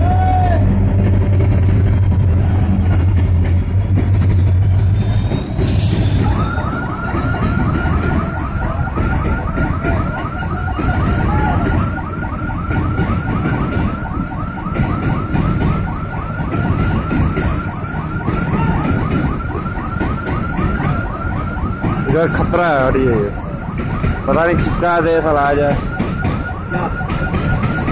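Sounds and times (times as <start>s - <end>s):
crane engines rumbling: 0.0s - 27.9s
rapid chirping warning alarm: 5.2s - 27.9s.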